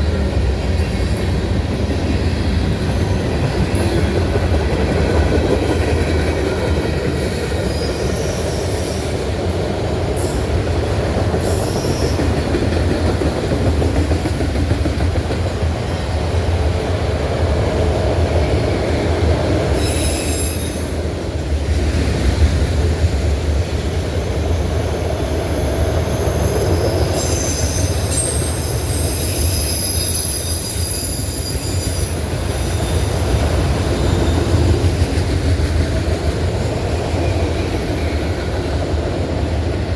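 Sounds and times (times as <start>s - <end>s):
train wheels squealing: 0.0s - 14.9s, 17.8s - 21.3s, 24.3s - 39.6s
freight train rumbling past: 0.0s - 39.9s.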